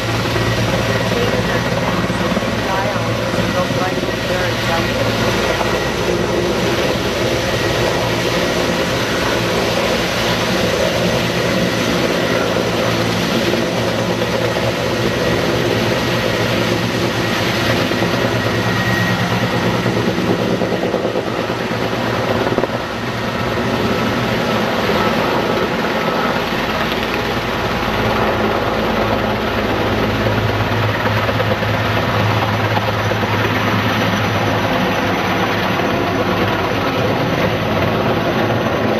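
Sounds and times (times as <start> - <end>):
helicopter engines and rotor: 0.0 - 38.9.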